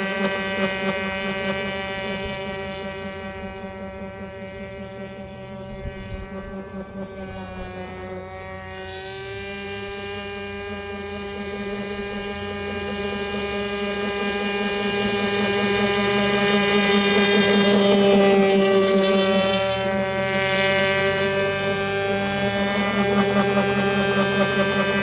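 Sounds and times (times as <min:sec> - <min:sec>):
model airboat engine buzzing: 0:00.0 - 0:25.0.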